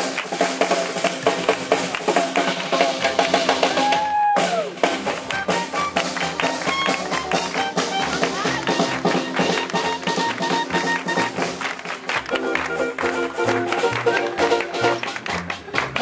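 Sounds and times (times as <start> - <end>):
drums driving beat: 0.0 - 16.0
swing jazz band playing: 0.0 - 16.0.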